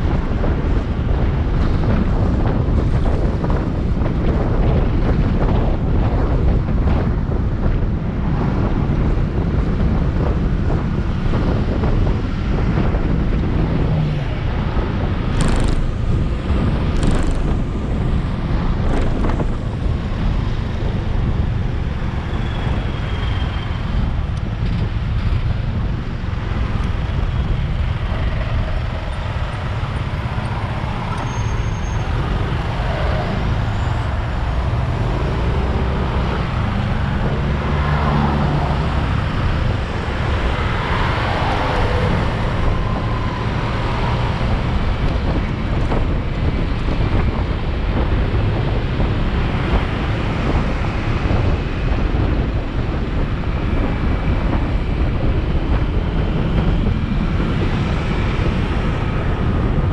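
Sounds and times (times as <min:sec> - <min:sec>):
engine and traffic rumble: 0:00.0 - 0:59.9
wind on microphone: 0:00.0 - 0:59.9.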